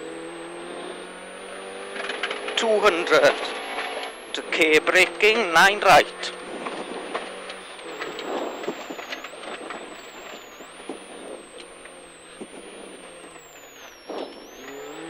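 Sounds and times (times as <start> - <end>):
car engine: 0.0 - 15.0
road and tyre noise: 0.0 - 15.0
thin high whine: 0.0 - 15.0.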